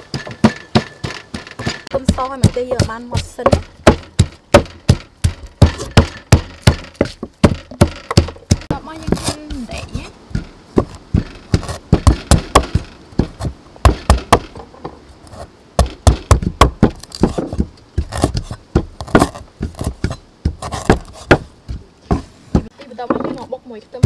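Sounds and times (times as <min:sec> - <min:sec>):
cleaver chopping on wooden board: 0:00.0 - 0:09.6, 0:10.3 - 0:14.6, 0:15.8 - 0:22.7.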